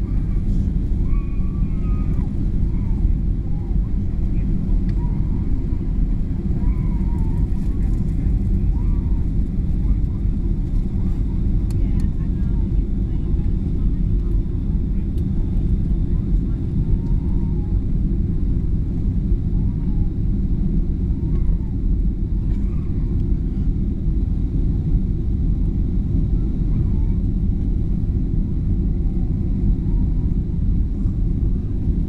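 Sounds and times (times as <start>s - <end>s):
jet engine rumble in cabin: 0.0s - 32.0s.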